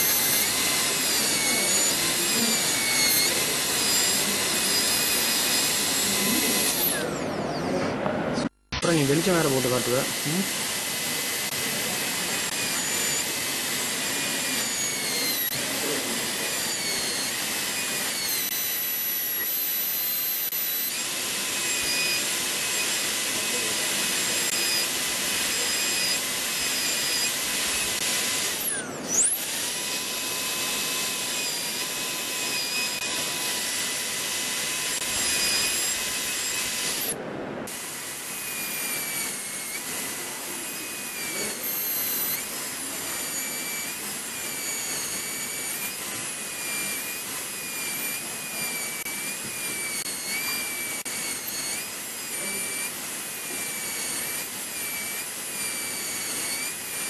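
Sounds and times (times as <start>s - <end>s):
dental drill whining: 0.0s - 57.0s.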